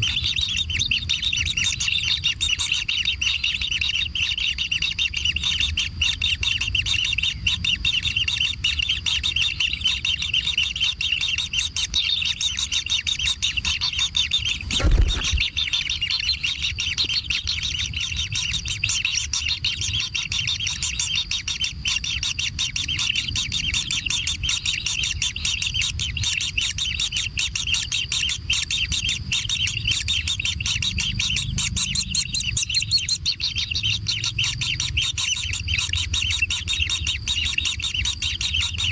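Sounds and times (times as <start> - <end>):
nestlings chirping: 0.0 - 38.9.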